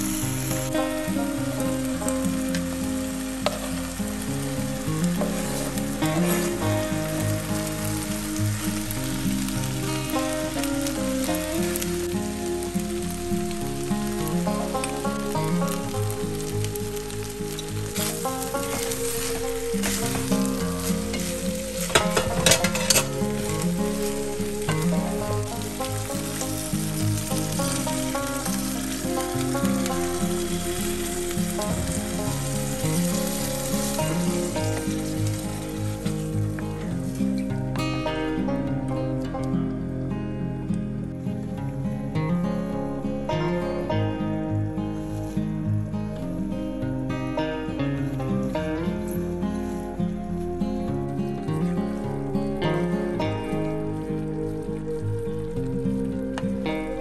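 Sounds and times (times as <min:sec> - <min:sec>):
rice sizzling in oil: 0:00.0 - 0:39.3, 0:44.6 - 0:57.0
background music: 0:00.0 - 0:57.0.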